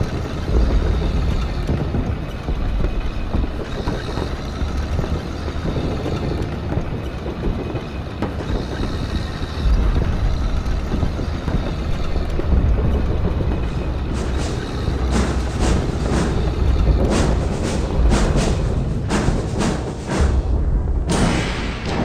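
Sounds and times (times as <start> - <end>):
continuous low rumble: 0.0 - 22.0
crackling: 0.0 - 22.0
deeper rumble: 0.0 - 22.0.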